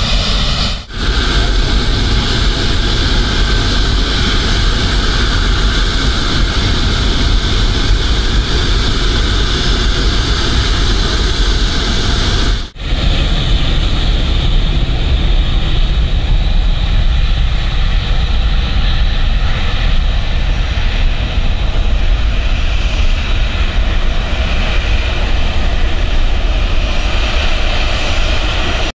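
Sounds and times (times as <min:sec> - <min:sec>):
jet engines roaring with whine: 0:00.0 - 0:29.0.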